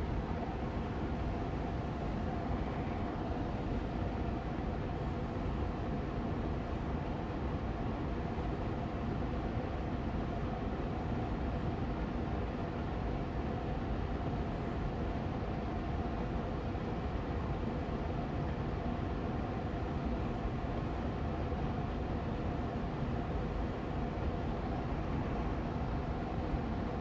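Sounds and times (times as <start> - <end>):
air purifier fan whooshing: 0.0 - 27.0
faint steady hum: 0.0 - 27.0.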